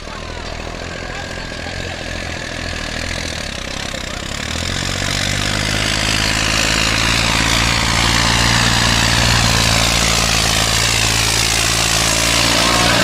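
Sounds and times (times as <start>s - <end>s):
tractor engine droning: 0.0s - 13.0s.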